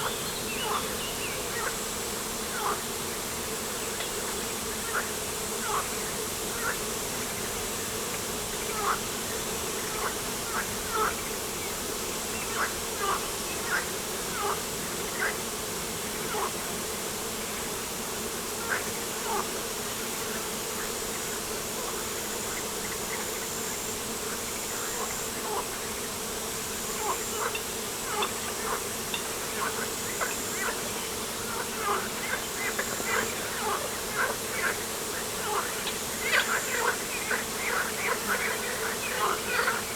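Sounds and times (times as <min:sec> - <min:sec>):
buzzing drone of insects: 0:00.0 - 0:39.9.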